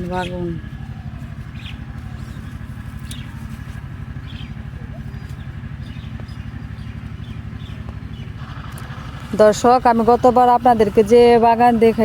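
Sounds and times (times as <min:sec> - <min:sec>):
small bird chirping: 0:00.0 - 0:11.9
low pulsing motor drone: 0:00.0 - 0:12.0.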